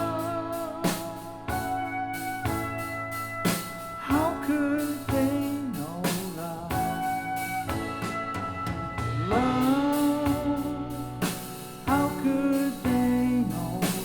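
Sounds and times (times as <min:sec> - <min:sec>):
slow song over loudspeakers: 0:00.0 - 0:14.0.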